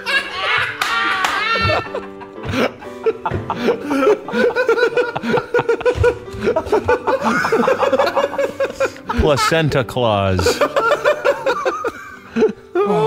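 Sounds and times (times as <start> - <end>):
people laughing hard: 0.0 - 13.0.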